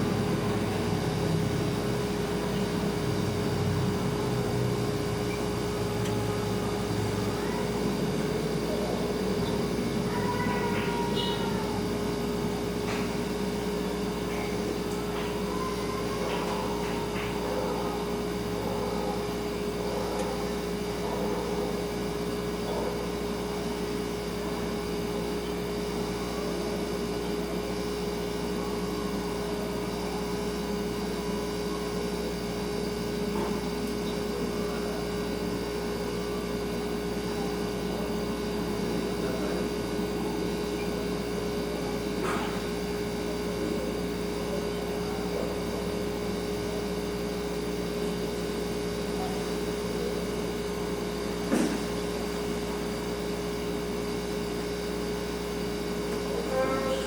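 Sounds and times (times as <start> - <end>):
refrigerator humming: 0.0 - 57.0.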